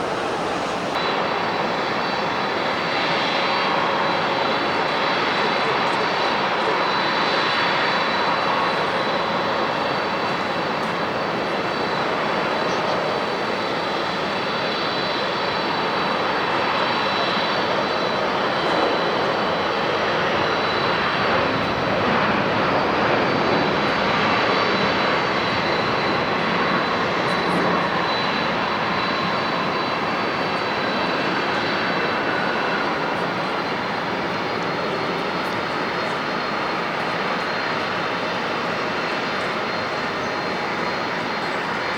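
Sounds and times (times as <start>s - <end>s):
jet engines roaring with whine: 0.0s - 41.9s.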